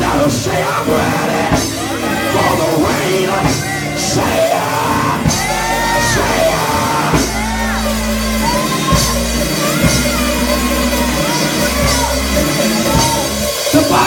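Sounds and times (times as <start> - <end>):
church praise music: 0.0 - 14.0
men shouting: 0.0 - 14.0.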